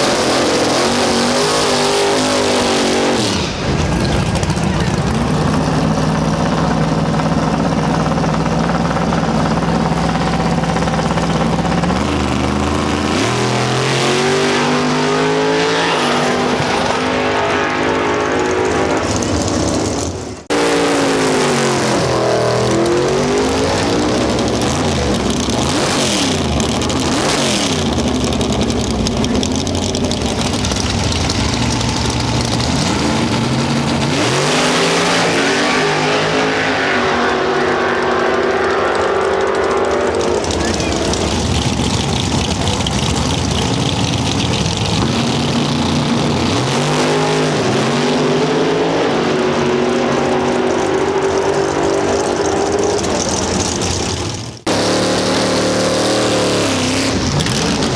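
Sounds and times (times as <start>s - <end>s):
race car engines: 0.0s - 57.9s
race cars passing by: 10.8s - 57.9s.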